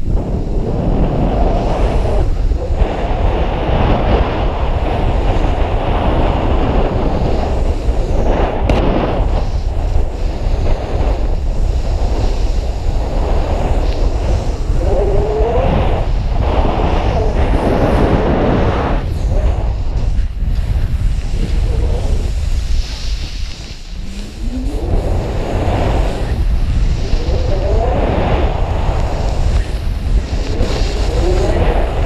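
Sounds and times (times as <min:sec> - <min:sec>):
snow spraying under skis: 0:00.0 - 0:32.0
wind buffeting a microphone: 0:00.0 - 0:32.0.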